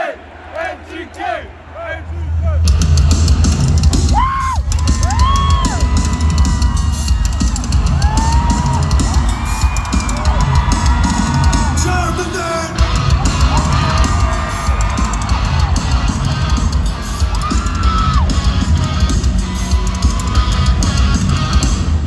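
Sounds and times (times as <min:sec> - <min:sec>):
crowd yelling: 0:00.0 - 0:22.0
pounding drum kit: 0:02.5 - 0:22.0
loud live rock music: 0:02.6 - 0:22.0.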